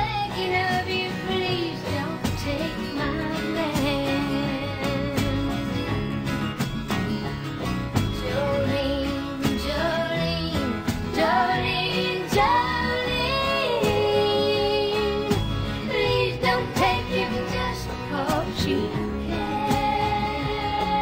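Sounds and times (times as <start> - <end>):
woman singing: 0.0 - 6.2, 8.1 - 21.0
guitar-led country band: 0.0 - 21.0.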